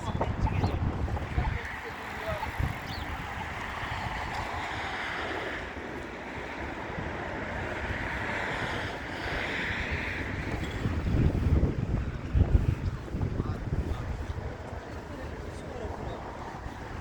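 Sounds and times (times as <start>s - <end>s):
passing traffic: 0.0s - 17.0s
wind rumbling on microphone: 0.0s - 17.0s.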